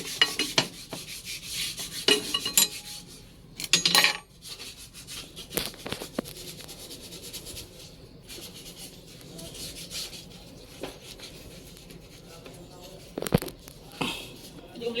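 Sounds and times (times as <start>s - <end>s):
rubbing and scraping handling noise: 0.0s - 15.0s.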